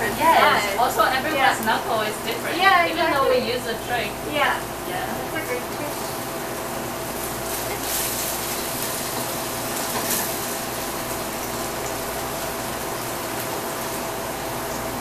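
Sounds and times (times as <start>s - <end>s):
food sizzling in oil: 0.0s - 15.0s
kitchen exhaust hood humming: 0.0s - 15.0s.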